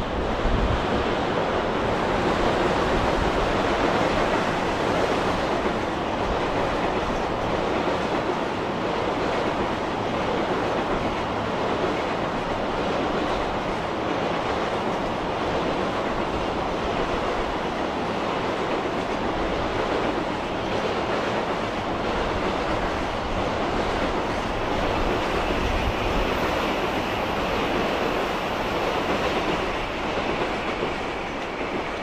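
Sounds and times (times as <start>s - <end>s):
train wheels rumbling on bridge: 0.0s - 32.0s.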